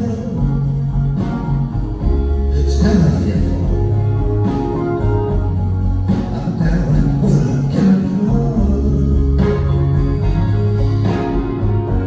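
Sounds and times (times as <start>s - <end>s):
bass line: 0.0s - 12.0s
live band playing slow ballad: 0.0s - 12.0s.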